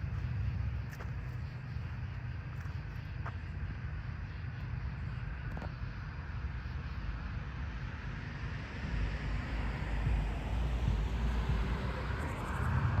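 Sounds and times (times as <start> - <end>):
railway equipment rumbling: 0.0 - 13.0.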